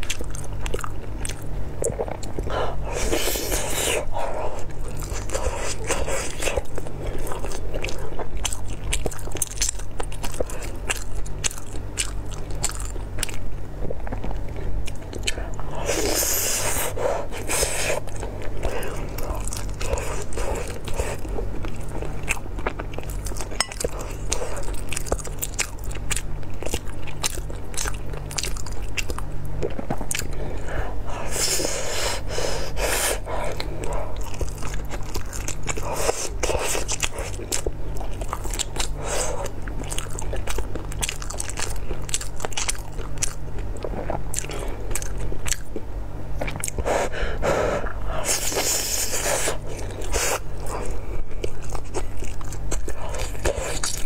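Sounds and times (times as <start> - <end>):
wet chewing and lip smacking: 0.0 - 30.7, 33.0 - 47.2, 47.8 - 54.0
steady low hum: 0.0 - 54.0.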